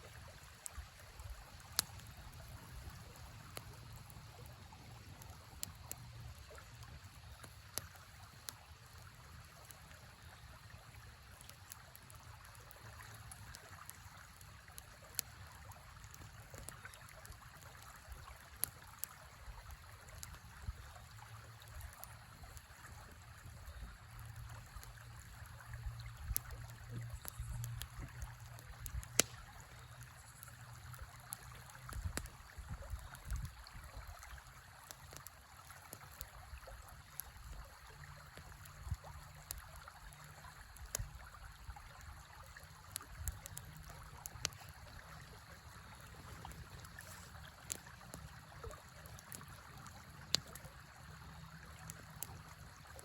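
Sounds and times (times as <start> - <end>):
river flowing: 0.0 - 32.9, 33.6 - 53.0
campfire crackling: 0.0 - 53.0.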